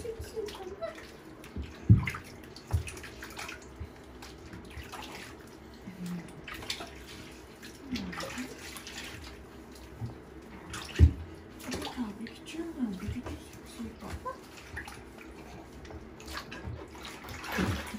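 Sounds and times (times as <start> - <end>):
water splashing in a plastic bathtub: 0.0 - 17.9.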